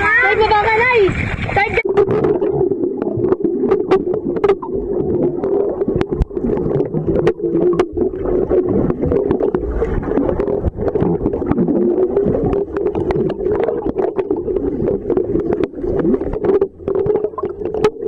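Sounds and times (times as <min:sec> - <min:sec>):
underwater clicks and knocks: 0:01.4 - 0:18.0
low underwater drone: 0:01.8 - 0:18.0.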